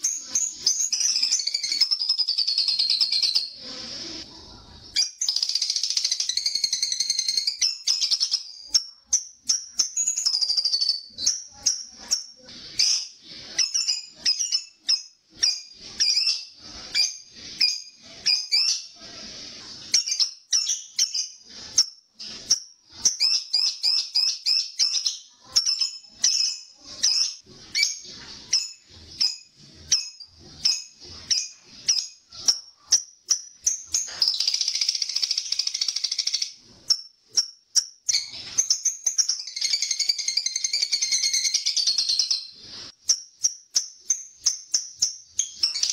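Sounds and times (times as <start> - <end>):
lovebird chirping: 0.0 - 45.9.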